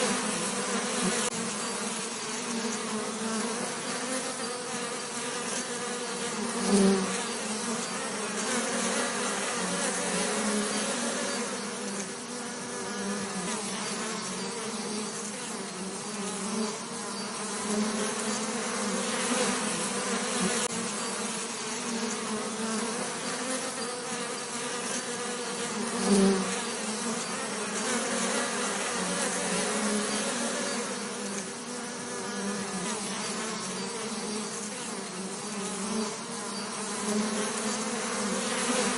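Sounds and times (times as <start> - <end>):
bees buzzing: 0.0 - 38.9.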